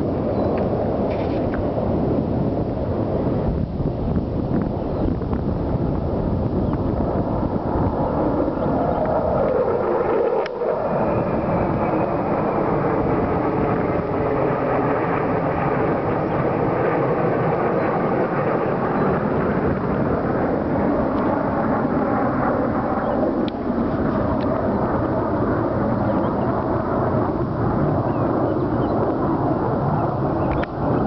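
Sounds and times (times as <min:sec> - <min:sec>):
fighter jets roaring overhead: 0:00.0 - 0:31.0.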